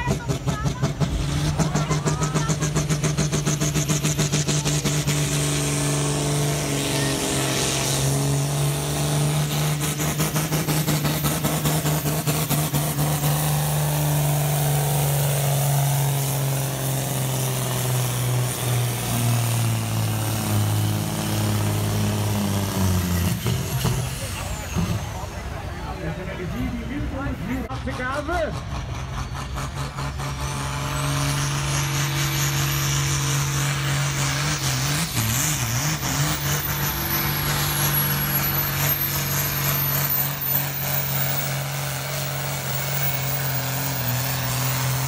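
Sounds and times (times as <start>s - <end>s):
tractor diesel engine roaring: 0.0s - 45.0s.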